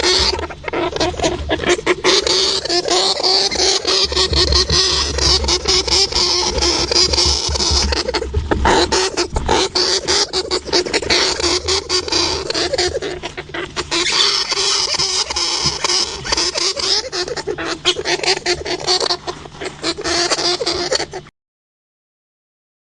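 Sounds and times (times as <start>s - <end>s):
hamster clicking and scratching: 0.0s - 20.9s.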